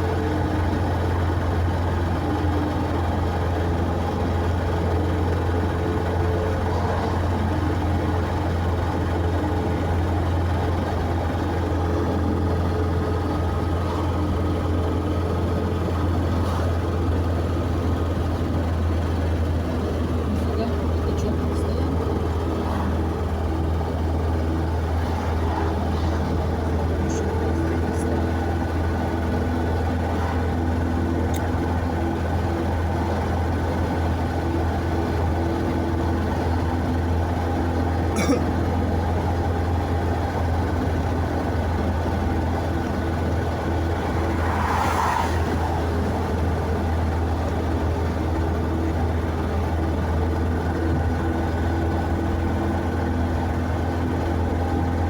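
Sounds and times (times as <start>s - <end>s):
vehicle engine and road hum: 0.0s - 55.0s.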